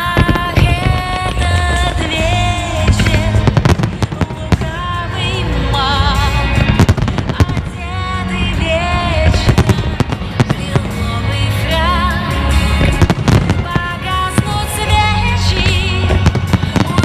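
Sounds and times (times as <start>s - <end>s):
fireworks bursting and crackling: 0.0s - 17.0s
loud melodic music: 0.0s - 17.0s.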